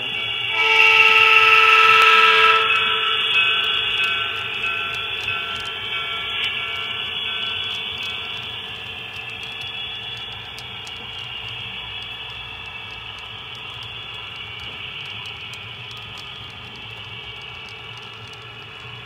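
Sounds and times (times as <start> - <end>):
model train cars rolling: 0.0 - 19.0.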